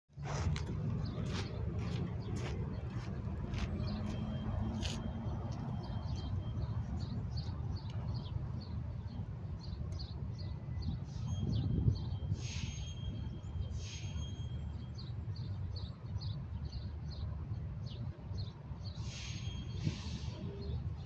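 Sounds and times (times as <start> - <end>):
city traffic rumble: 0.1 - 21.0.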